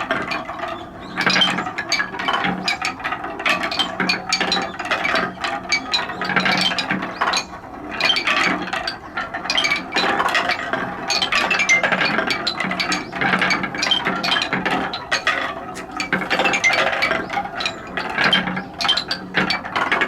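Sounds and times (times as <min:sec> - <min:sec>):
balls clattering down wooden marble run: 0:00.0 - 0:20.0.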